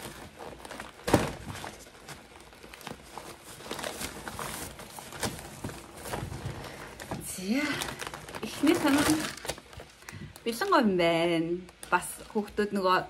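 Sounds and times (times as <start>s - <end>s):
gift bag and snacks rustling: 0.0s - 12.5s.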